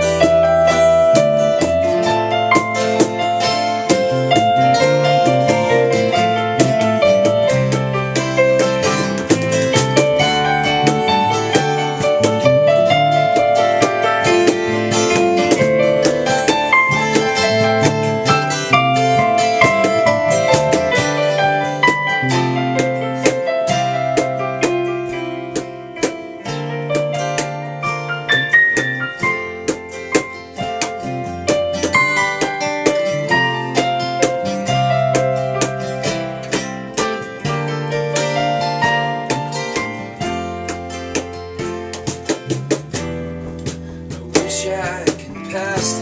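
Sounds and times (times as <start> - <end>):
held low bass notes: 0.0 - 46.0
keyboard notes and chords: 0.0 - 46.0.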